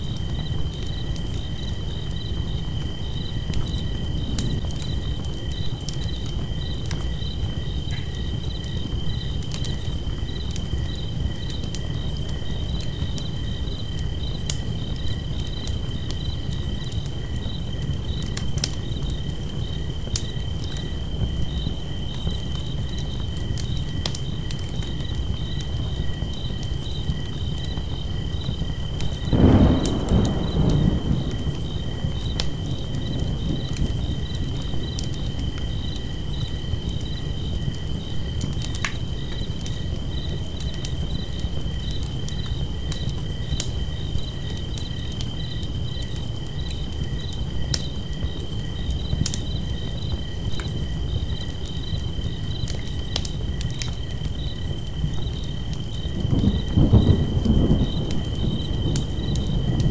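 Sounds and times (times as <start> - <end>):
campfire crackling and popping: 0.0 - 59.9
crickets chirping: 0.0 - 59.9.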